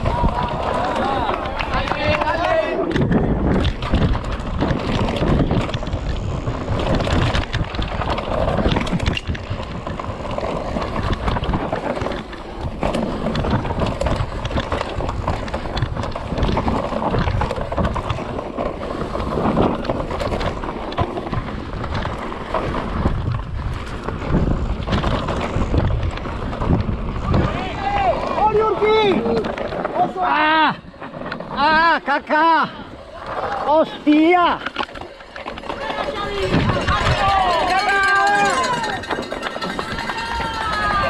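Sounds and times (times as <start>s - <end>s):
bike rattling and knocking: 0.0s - 41.0s
wind rushing over microphone: 0.0s - 41.0s.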